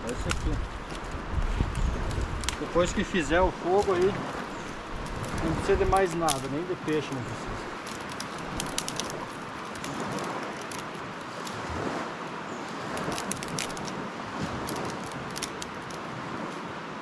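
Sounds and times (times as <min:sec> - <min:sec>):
twigs crackling in a fire: 0:00.0 - 0:16.7
rushing background noise: 0:00.0 - 0:17.0.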